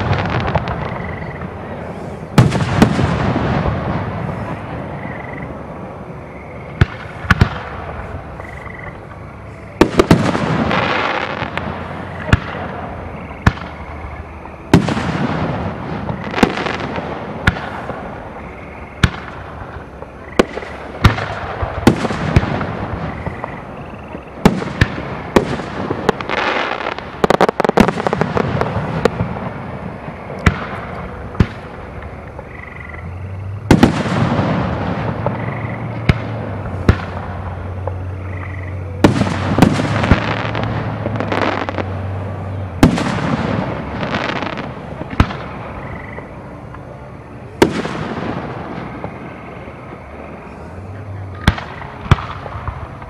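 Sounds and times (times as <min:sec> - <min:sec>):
rushing hiss of fireworks: 0:00.0 - 0:32.5, 0:33.4 - 0:53.0.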